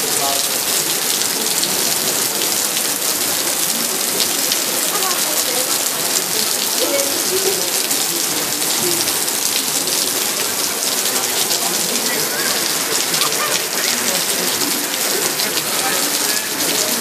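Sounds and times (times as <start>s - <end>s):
heavy rain on stone paving: 0.0s - 17.0s.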